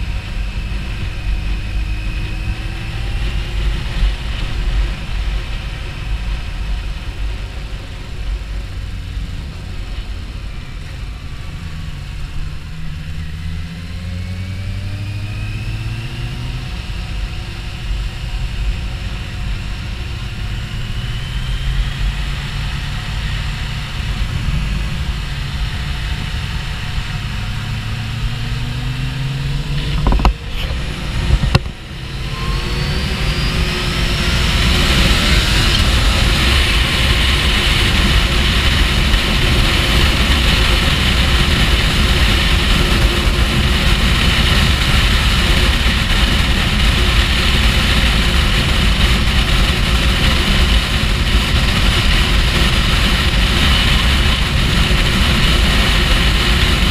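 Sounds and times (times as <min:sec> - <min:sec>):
motorcycle engine accelerating: 0:00.0 - 0:56.9
rush of wind: 0:00.0 - 0:56.9.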